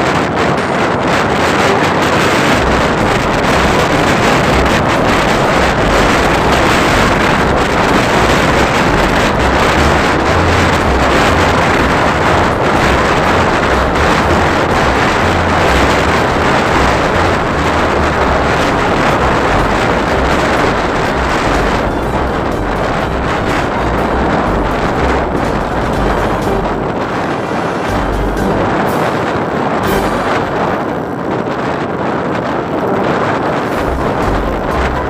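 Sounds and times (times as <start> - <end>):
low motorcycle rumble: 0.0 - 31.9, 32.6 - 35.0
wind rushing over microphone: 0.0 - 35.0.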